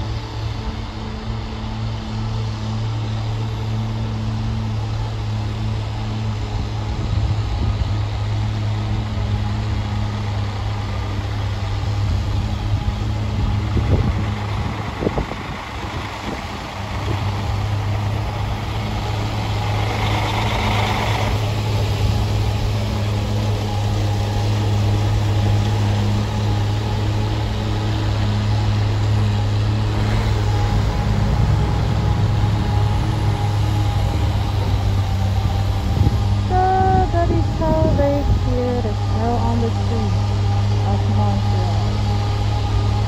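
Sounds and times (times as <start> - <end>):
diesel engine drone: 0.0 - 43.0.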